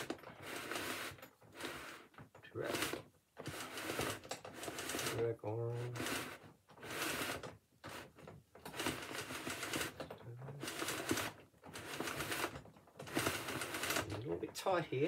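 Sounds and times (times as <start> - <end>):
blind rollers rattling and rustling: 0.0 - 15.0.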